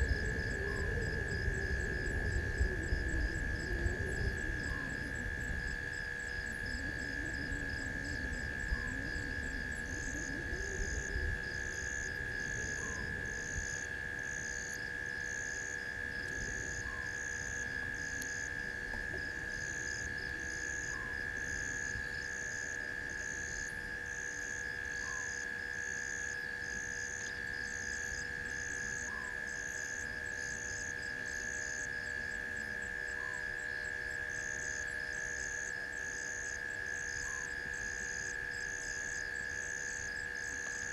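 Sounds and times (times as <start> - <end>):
faint short insect call: 0.0 - 40.9
high-pitched insect drone: 0.0 - 40.9
insect chirping: 0.0 - 40.9.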